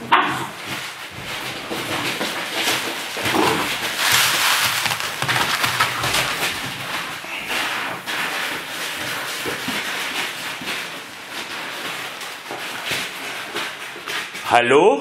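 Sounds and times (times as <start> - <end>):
puppies digging in litter: 0.4 - 14.5.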